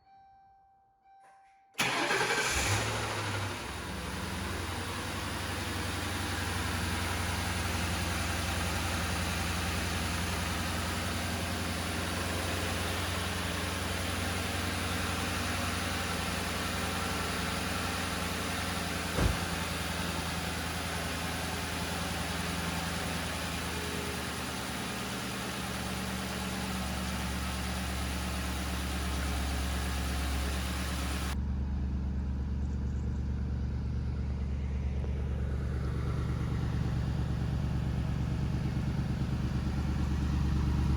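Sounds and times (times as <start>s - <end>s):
car engine idling: 1.8s - 40.9s.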